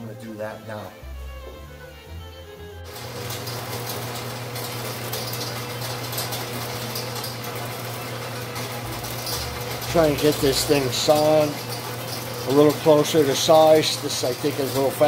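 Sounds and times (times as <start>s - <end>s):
bandsaw motor hum: 1.2s - 15.0s
saw blade cutting metal: 2.9s - 15.0s.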